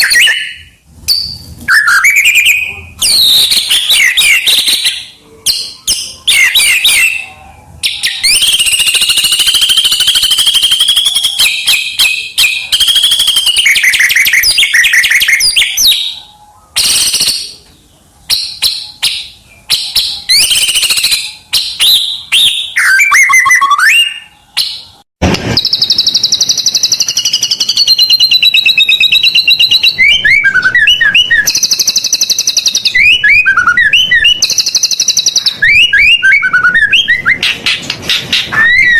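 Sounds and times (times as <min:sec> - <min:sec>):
bird singing varied song: 0:00.0 - 0:25.0, 0:25.6 - 0:38.9.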